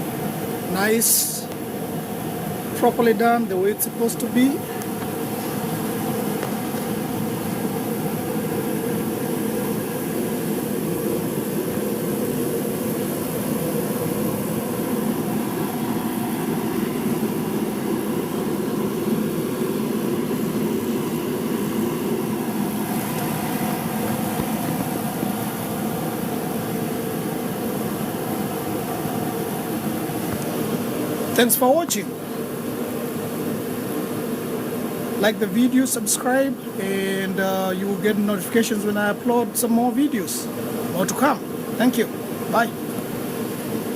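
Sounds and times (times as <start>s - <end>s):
steady mechanical hum: 0.0s - 43.9s.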